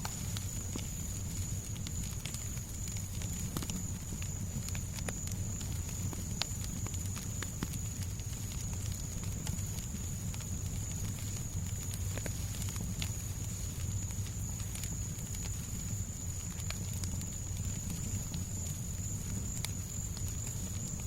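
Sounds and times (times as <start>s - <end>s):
fireplace crackling and popping: 0.0s - 21.0s.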